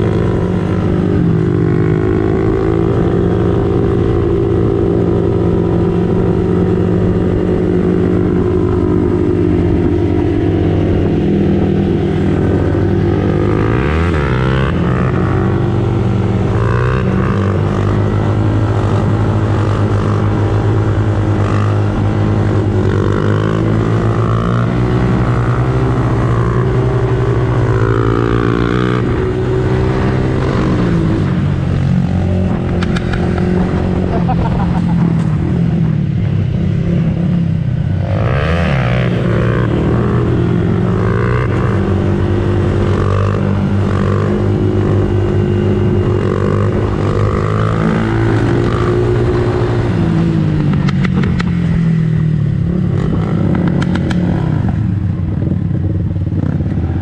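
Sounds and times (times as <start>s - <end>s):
motorcycle engine and exhaust: 0.0s - 57.0s.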